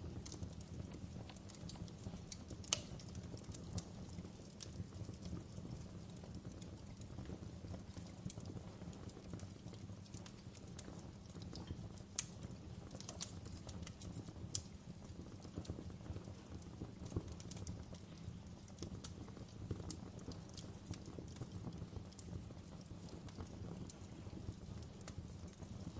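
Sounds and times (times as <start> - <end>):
fire crackling and popping: 0.0 - 25.9.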